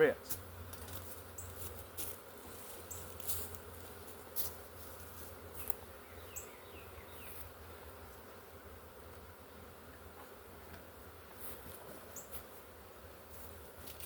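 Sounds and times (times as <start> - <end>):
bee swarm buzzing: 0.2 - 14.0.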